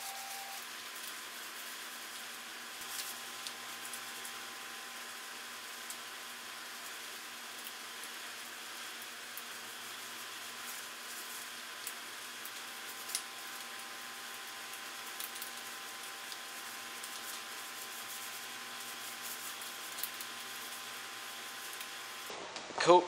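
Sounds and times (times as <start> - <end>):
heater hissing: 1.4 - 22.4.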